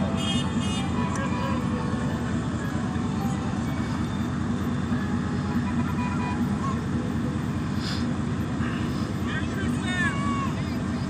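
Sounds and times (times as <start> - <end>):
road noise: 0.0 - 11.0
vehicle engines rumbling: 0.0 - 11.0.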